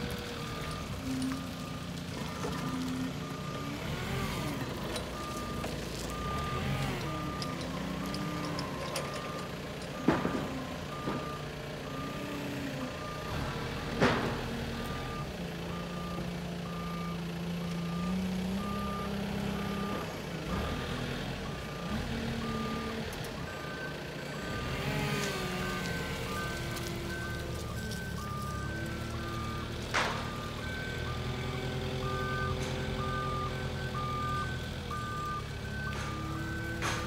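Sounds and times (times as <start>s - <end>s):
forklift warning alarm beeping: 0.2s - 37.0s.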